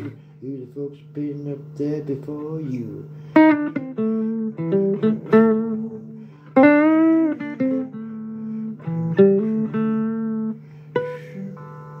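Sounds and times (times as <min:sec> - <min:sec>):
blues guitar playing: 0:01.2 - 0:12.0.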